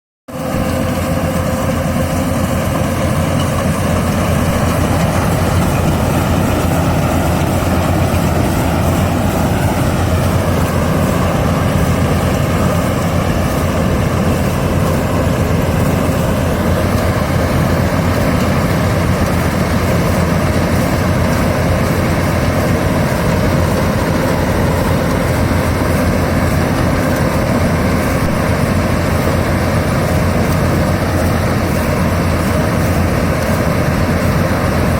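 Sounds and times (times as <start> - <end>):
combine harvester engine running: 0.3 - 34.9.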